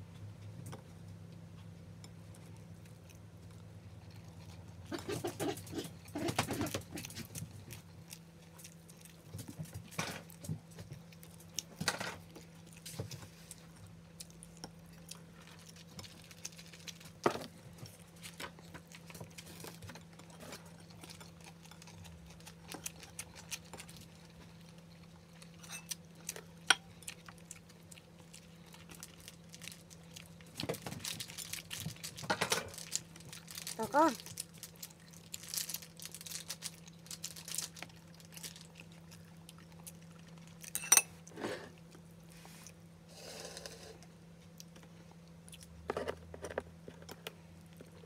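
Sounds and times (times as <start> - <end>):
quiet chewing: 0.0 - 48.0.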